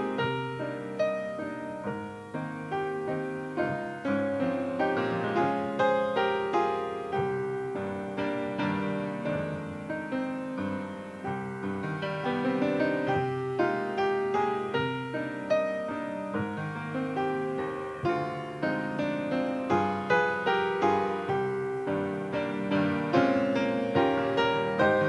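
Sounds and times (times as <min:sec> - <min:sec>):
solo piano: 0:00.0 - 0:25.0.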